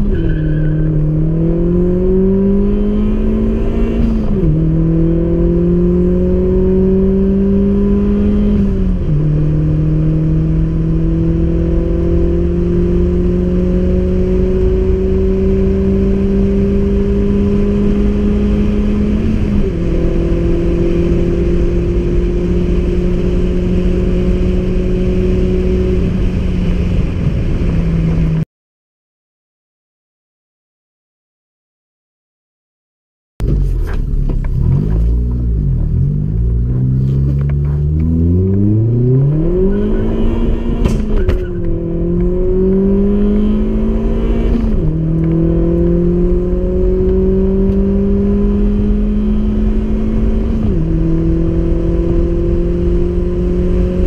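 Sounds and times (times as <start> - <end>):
car engine accelerating: 0.0 - 28.4, 33.4 - 54.0.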